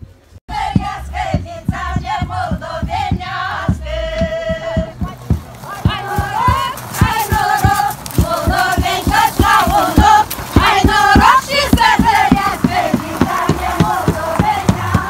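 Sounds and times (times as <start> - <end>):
steady low beat: 0.5 - 15.0
women singing together: 0.5 - 15.0.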